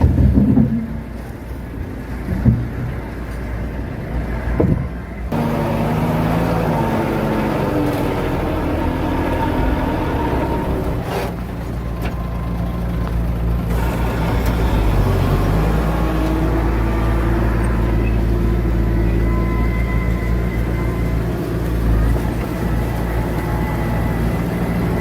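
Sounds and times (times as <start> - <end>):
diesel machinery engine rumble: 0.0 - 25.0.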